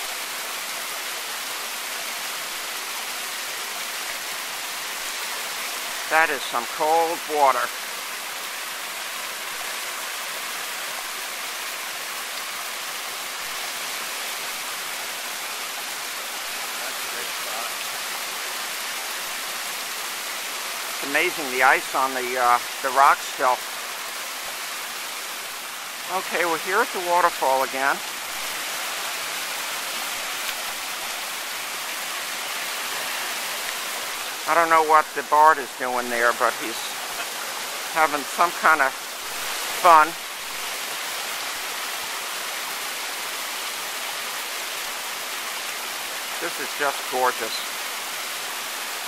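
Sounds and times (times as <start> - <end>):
waterfall splashing on rocks: 0.0 - 49.0.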